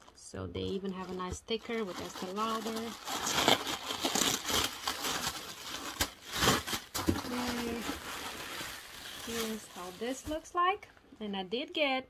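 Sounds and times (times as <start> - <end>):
tissue paper rustling and tearing: 0.0 - 10.7.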